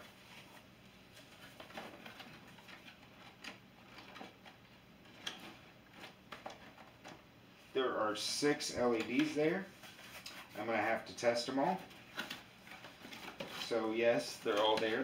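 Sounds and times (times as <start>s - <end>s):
cardboard packaging rustling: 0.0s - 7.2s, 8.8s - 15.0s.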